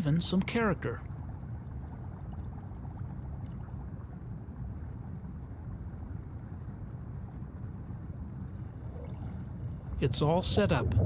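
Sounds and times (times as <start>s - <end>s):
low underwater rumbling: 0.9s - 11.0s.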